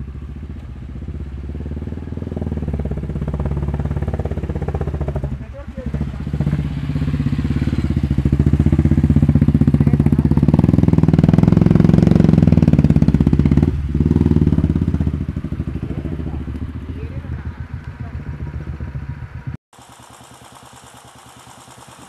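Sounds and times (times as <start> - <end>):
motorcycle engine pulsing: 0.0 - 22.0.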